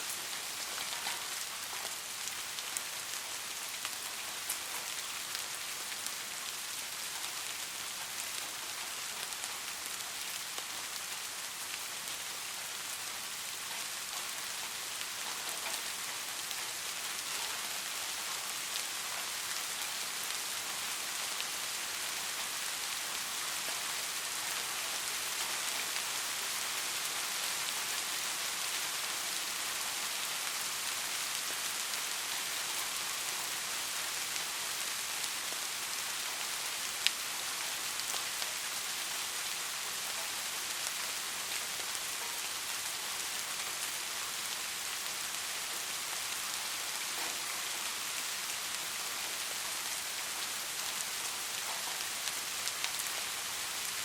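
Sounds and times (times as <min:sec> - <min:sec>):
rain falling on a street: 0:00.0 - 0:54.0.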